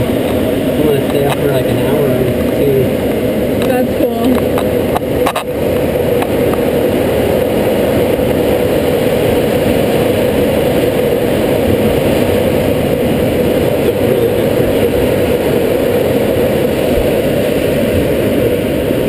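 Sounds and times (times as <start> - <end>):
air rushing over glider canopy: 0.0 - 19.0.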